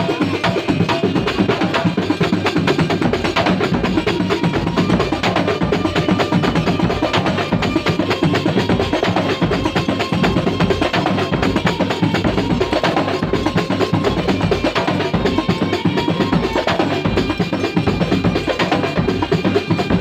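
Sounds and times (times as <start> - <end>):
quick drum strokes: 0.0 - 20.0.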